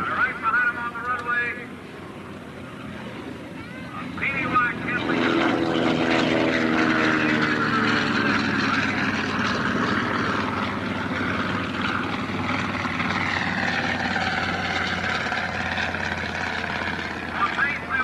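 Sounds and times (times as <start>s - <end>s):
propeller airplane engines: 0.0s - 18.0s.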